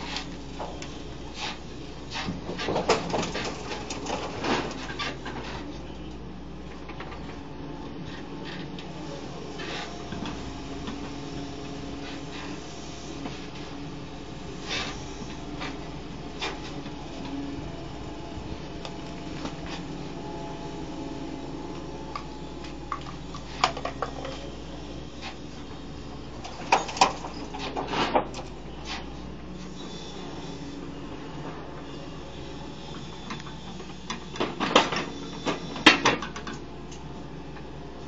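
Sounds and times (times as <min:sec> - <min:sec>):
excavator engine running: 0:00.0 - 0:38.0.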